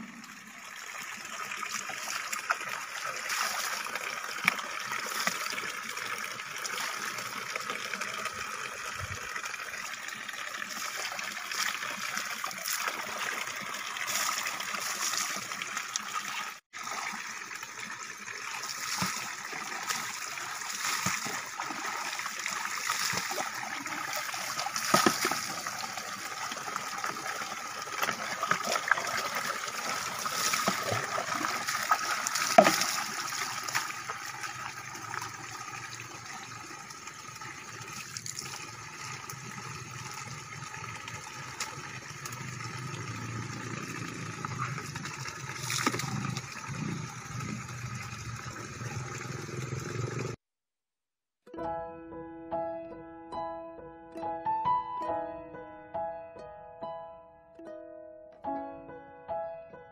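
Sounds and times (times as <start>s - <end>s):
water poured and splashing: 0.0s - 50.4s
water running from a spout: 0.0s - 50.4s.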